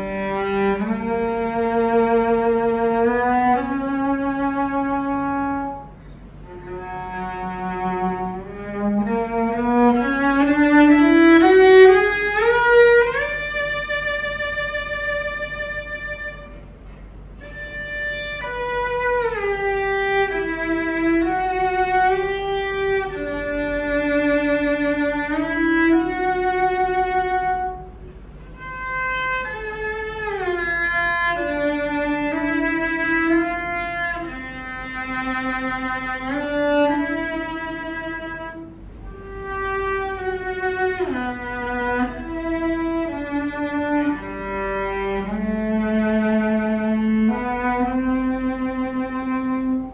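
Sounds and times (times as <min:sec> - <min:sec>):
solo cello playing slow melody: 0:00.0 - 0:49.9.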